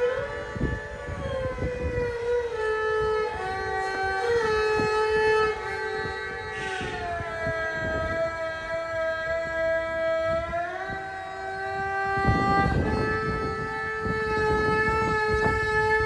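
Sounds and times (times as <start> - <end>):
music of long gliding notes: 0.0 - 16.0.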